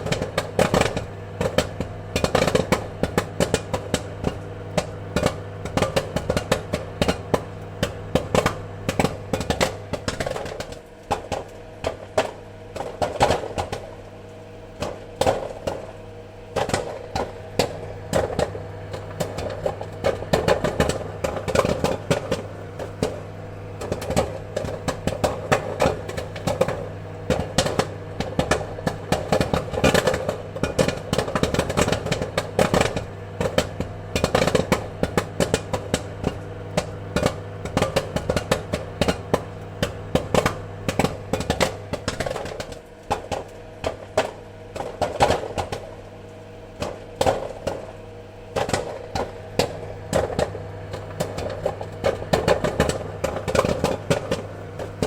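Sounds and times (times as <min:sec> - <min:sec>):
popcorn kernels popping: 0:00.0 - 0:55.0
steady low hum: 0:00.0 - 0:55.0.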